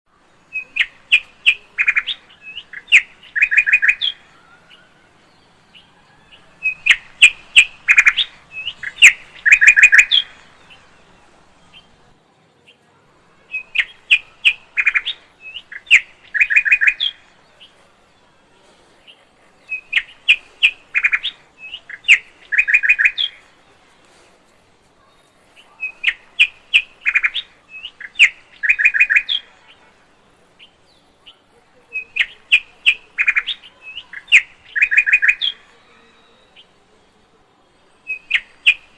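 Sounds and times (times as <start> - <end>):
lovebirds chirping: 0.1 - 38.9.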